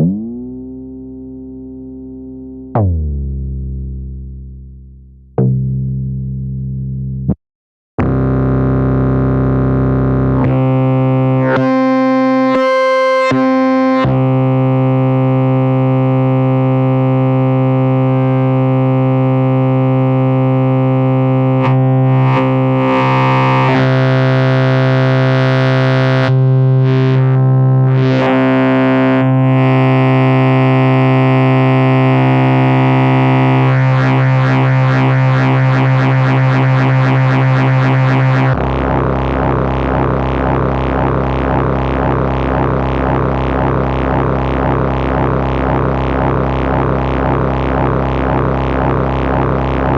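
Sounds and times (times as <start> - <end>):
synthesizer drone: 8.0 - 27.1, 27.8 - 49.9.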